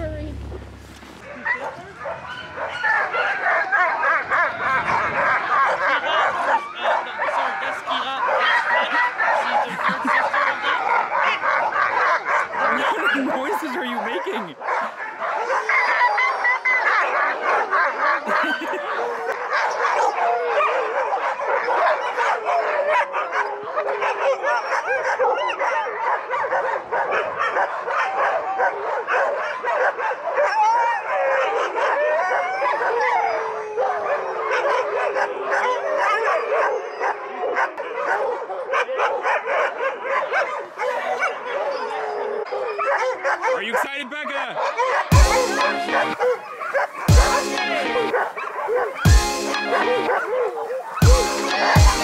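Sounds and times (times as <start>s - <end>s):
dogs barking and yelping: 0.1s - 52.0s
dogs howling: 1.3s - 43.8s, 44.4s - 52.0s.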